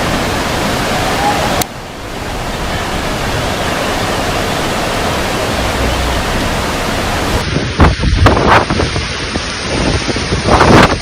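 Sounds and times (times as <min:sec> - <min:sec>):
storm wind and rain roaring: 0:00.0 - 0:11.0
wind gusts buffeting microphone: 0:00.0 - 0:11.0.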